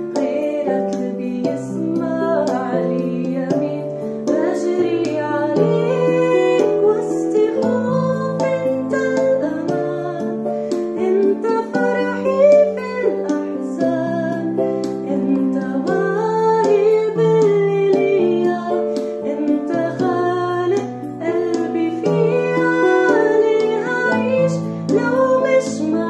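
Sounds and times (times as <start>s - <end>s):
light steady beat: 0.0s - 26.0s
woman singing a worship song: 0.0s - 26.0s.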